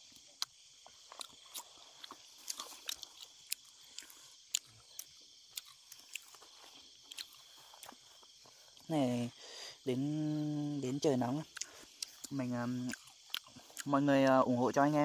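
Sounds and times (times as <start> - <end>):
chewing and crunching: 0.0 - 8.9, 11.2 - 15.0
night insects chorus: 0.0 - 15.0.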